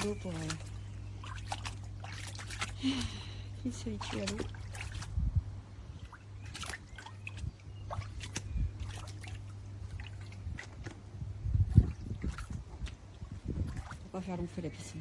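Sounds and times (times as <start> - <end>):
steady low hum: 0.0 - 15.0
water sloshing and splashing: 0.0 - 15.0.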